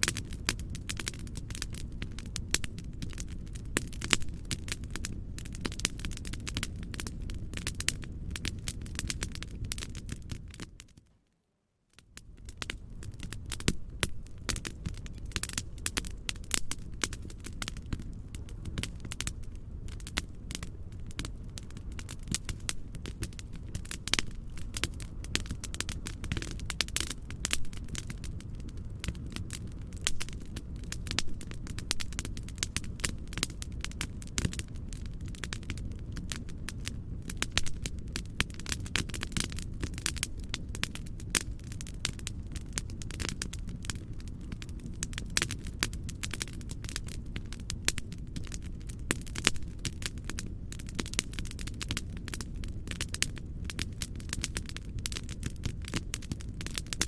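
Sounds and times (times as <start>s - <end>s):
wood fire crackling and popping: 0.0s - 11.1s, 12.0s - 57.0s.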